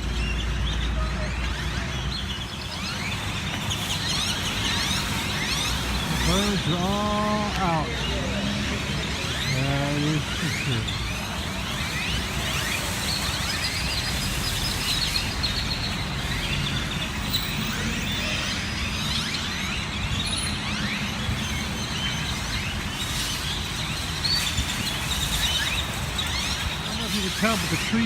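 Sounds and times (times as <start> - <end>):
flock of birds chirping: 0.0 - 28.0.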